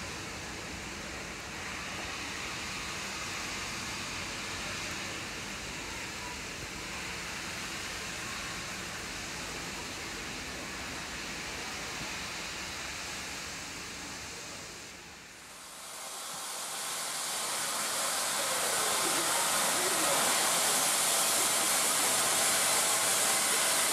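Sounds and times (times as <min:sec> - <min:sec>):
steam hissing from locomotives: 0:00.0 - 0:23.9.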